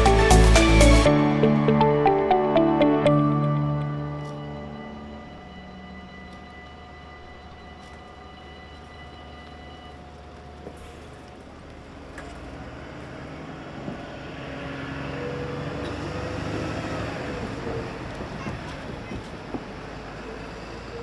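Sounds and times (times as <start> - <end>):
train passing wheel and rail noise: 1.4 - 21.0.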